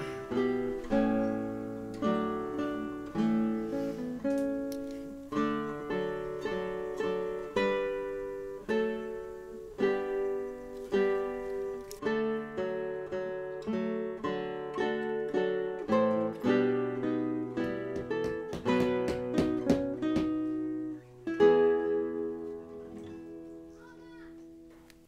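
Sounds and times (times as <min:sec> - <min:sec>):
solo acoustic guitar playing: 0:00.0 - 0:25.0.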